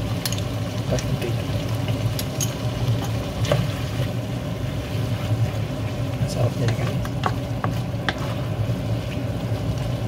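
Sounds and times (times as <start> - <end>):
sauce sizzling in a frying pan: 0.0 - 10.0.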